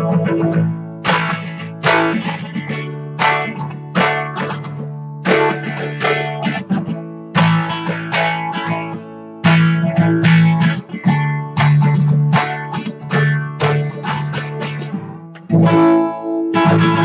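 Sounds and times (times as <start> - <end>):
acoustic guitar strummed hard: 0.0 - 17.0.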